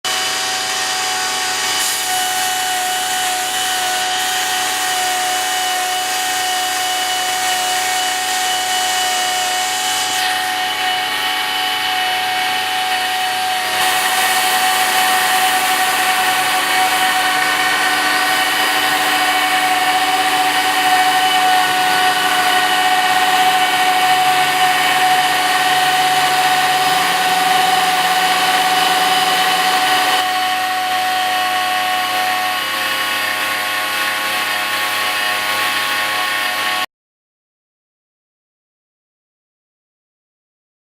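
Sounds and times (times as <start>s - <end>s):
router milling wood: 0.1s - 36.9s.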